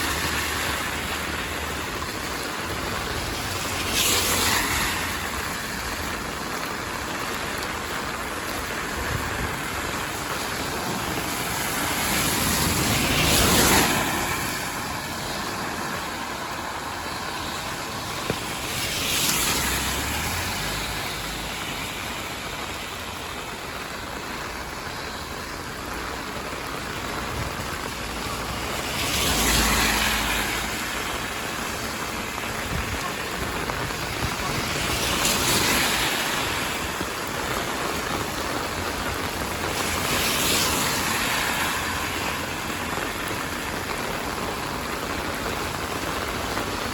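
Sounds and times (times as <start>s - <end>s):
heavy rain hissing: 0.0s - 46.9s
vehicle swishing past on wet road: 0.0s - 46.9s.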